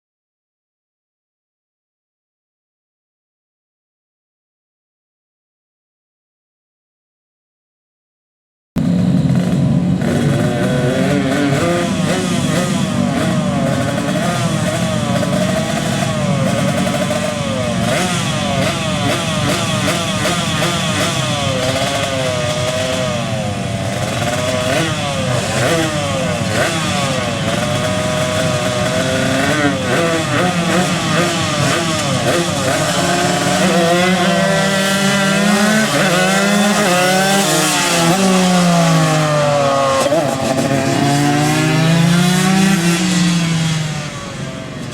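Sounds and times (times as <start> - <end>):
two-stroke motorcycle engines revving: 8.8 - 44.9.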